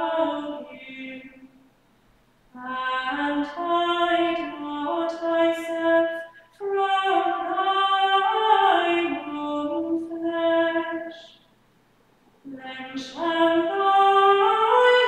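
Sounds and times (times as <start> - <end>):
person singing chant: 0.0 - 1.5, 2.6 - 11.4, 12.5 - 15.0.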